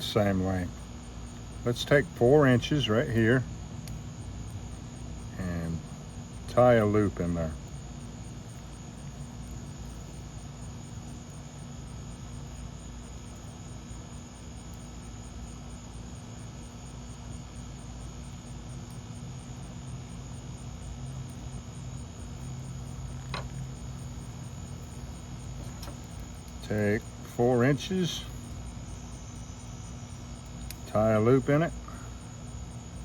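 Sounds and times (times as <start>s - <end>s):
crickets chirping: 0.0s - 33.0s
steady low hum: 0.0s - 33.0s.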